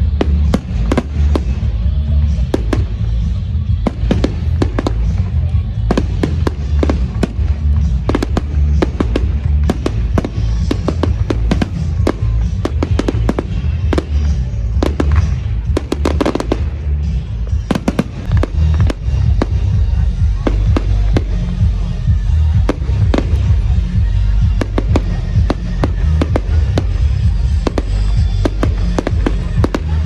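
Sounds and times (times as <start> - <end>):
fireworks bangs and crackles: 0.0 - 30.0
low rumble: 0.0 - 30.0.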